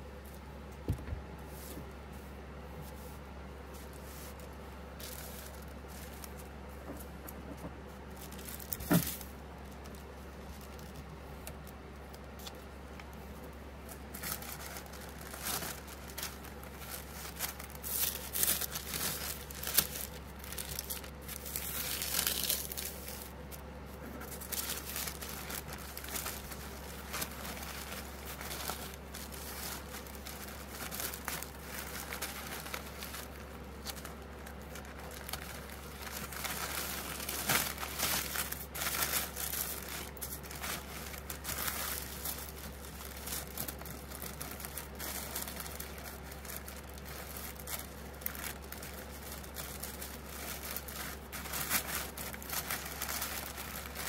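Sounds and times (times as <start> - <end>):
tissue paper rustling: 1.4 - 7.2, 8.1 - 11.5, 12.2 - 54.0.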